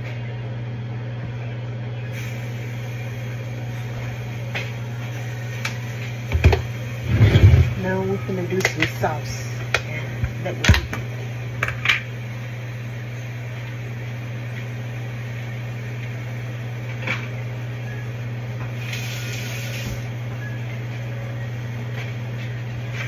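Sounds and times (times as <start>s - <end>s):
appliance fan motor humming: 0.0s - 23.0s.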